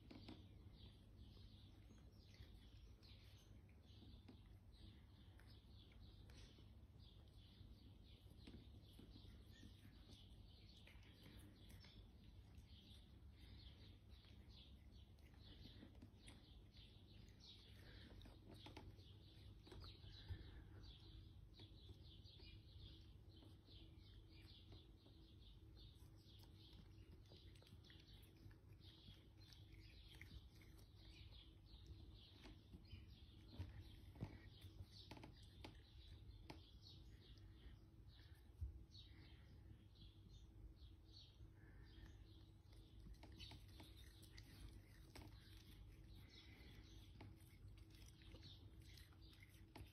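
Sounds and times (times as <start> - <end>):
faint birds chirping: 0.0 - 49.9.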